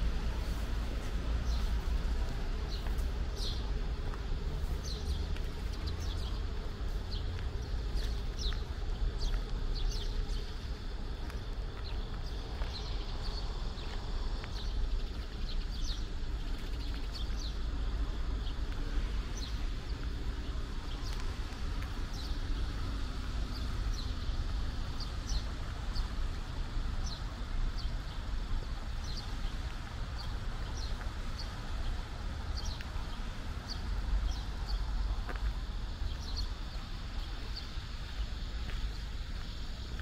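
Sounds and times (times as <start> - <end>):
steady low rumble: 0.0 - 40.0
small birds chirping: 0.1 - 40.0.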